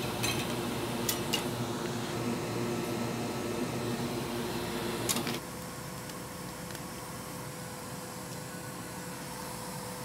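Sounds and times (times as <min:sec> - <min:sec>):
small electric fan humming: 0:00.0 - 0:10.0.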